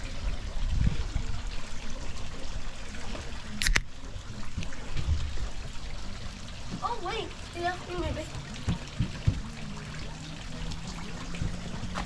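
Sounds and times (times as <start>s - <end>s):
water lapping against dock: 0.0s - 12.0s.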